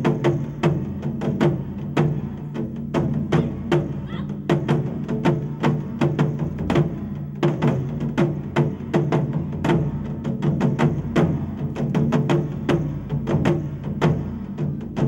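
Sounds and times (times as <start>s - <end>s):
drums struck fast: 0.0s - 15.0s.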